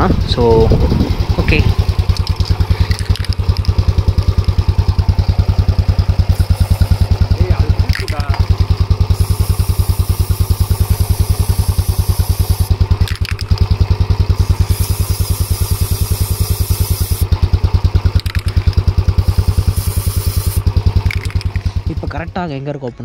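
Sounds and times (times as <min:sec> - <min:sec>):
motorcycle engine idling: 0:00.0 - 0:22.7
aerosol spray hissing: 0:01.8 - 0:17.4, 0:18.0 - 0:21.9.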